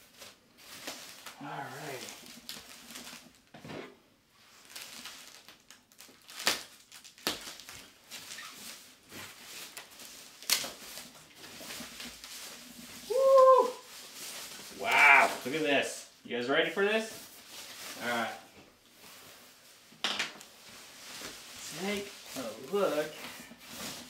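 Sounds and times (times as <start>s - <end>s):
foam and cardboard rustling: 0.0s - 3.8s, 4.4s - 15.9s, 17.0s - 24.0s.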